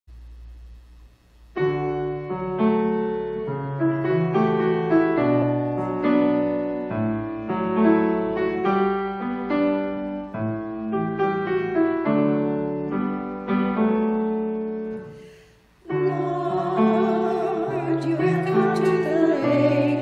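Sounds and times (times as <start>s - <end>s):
faint low hum: 0.1s - 20.0s
piano playing slow chords: 1.5s - 20.0s.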